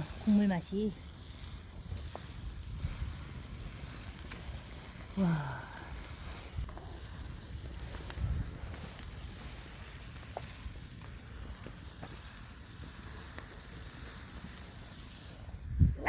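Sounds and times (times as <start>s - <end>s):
pot boiling: 0.0s - 16.0s
wood fire crackling and popping: 0.0s - 16.0s.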